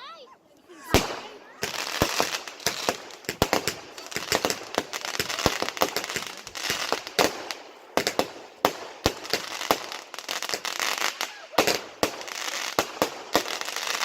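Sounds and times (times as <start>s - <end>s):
fireworks crackling: 0.0s - 14.0s
fireworks bangs: 0.8s - 14.0s.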